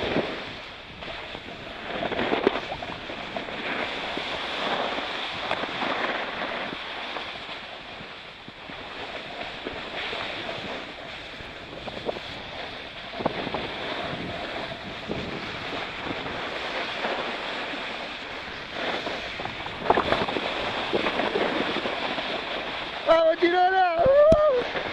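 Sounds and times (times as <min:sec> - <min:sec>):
wind on microphone: 0:00.0 - 0:24.9.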